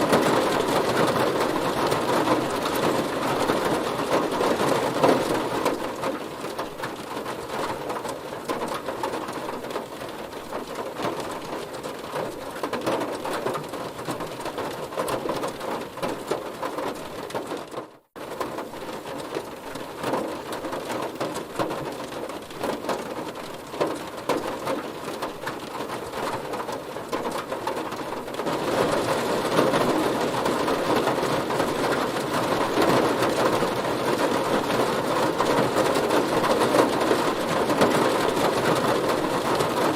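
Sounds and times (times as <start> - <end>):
heavy rain on a car: 0.0 - 39.9.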